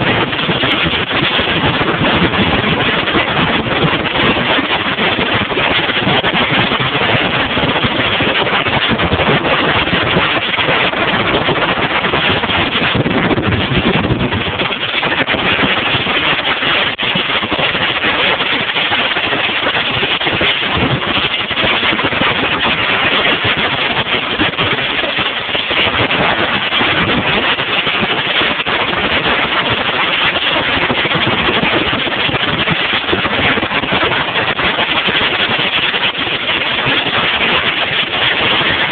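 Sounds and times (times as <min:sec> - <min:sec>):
boat engine wind and water rush: 0:00.0 - 0:38.9.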